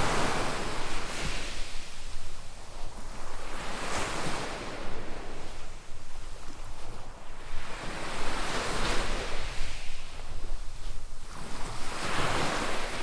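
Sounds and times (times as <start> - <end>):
small waves washing on beach: 0.0 - 13.0
wind rumble on microphone: 0.0 - 13.0.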